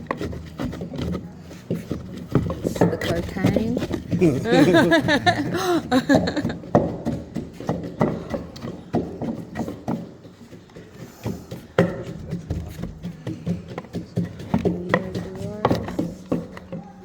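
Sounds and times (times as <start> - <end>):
pestle pounding in mortar: 0.0 - 16.9.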